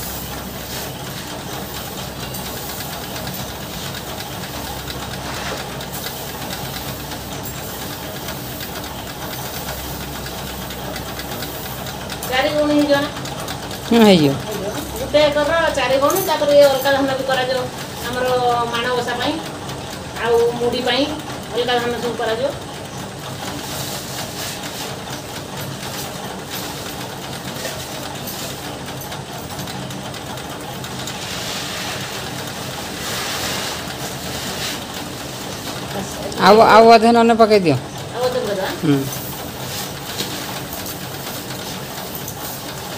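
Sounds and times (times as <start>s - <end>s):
steady machine hum: 0.0s - 42.9s.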